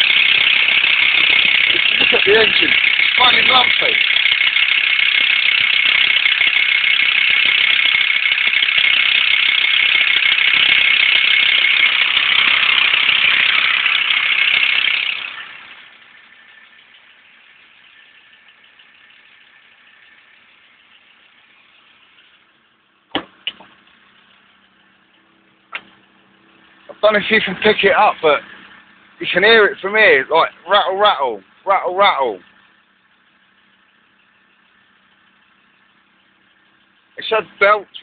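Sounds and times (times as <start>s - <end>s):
van engine rattling: 0.0s - 38.0s.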